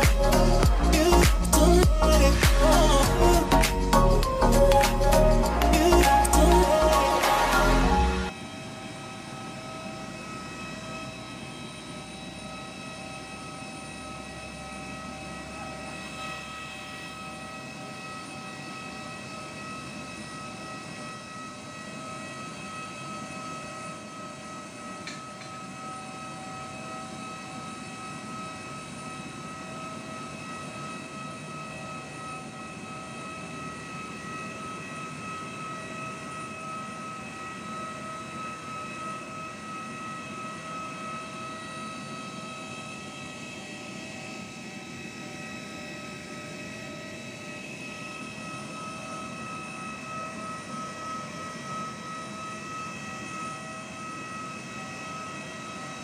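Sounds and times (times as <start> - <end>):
jet turbine whine: 0.0 - 56.0.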